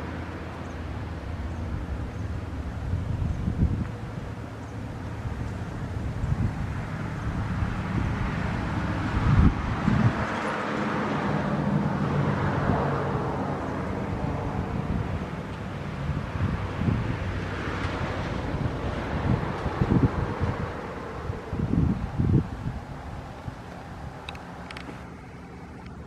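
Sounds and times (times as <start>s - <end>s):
vehicle passing on road: 0.0s - 26.0s
wind buffeting microphone: 0.1s - 26.0s.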